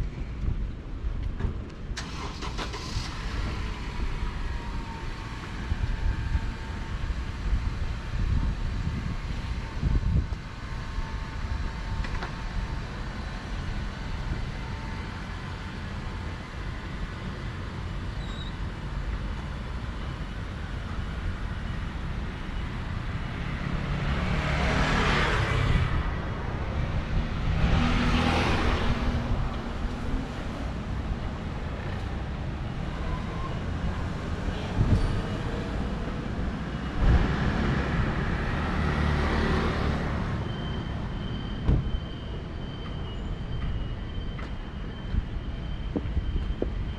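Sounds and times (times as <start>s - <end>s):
traffic rumble: 0.0s - 46.9s
vehicles passing close by: 0.0s - 46.9s.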